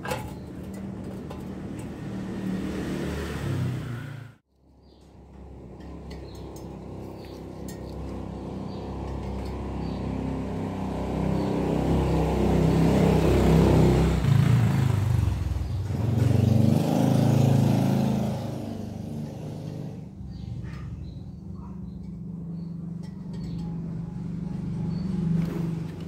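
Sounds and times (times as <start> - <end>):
vehicle engine passing by: 0.0 - 4.4, 5.2 - 26.0.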